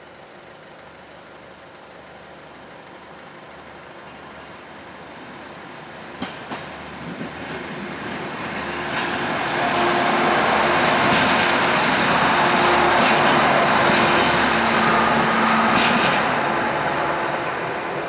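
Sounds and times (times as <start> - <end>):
diesel railcar passing: 0.2 - 18.0.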